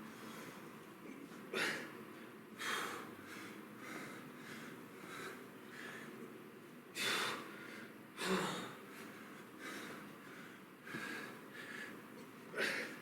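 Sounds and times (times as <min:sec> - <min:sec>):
man breathing hard: 0:01.5 - 0:06.2, 0:07.0 - 0:13.0.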